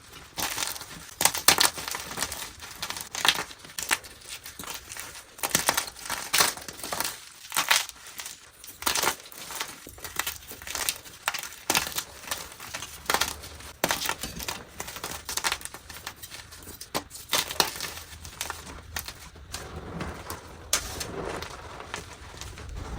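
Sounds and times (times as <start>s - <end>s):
chalk blocks crunching: 0.0s - 22.9s.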